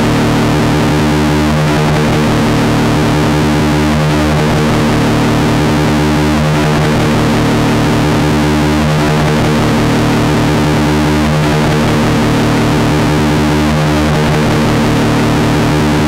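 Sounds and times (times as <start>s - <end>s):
distorted synthesizer drone: 0.0s - 16.0s.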